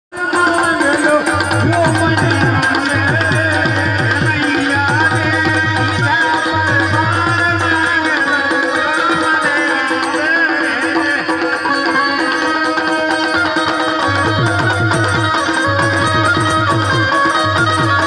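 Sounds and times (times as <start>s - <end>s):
hand-drum beats: 0.1s - 18.0s.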